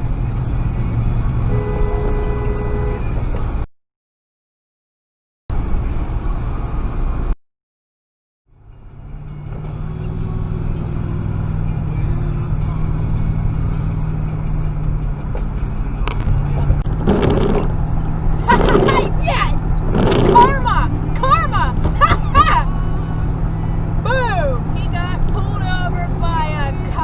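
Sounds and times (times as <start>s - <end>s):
car engine drone: 0.0s - 3.7s, 5.5s - 7.4s, 8.5s - 27.0s
road rumble: 0.0s - 3.7s, 5.5s - 7.4s, 8.5s - 27.0s.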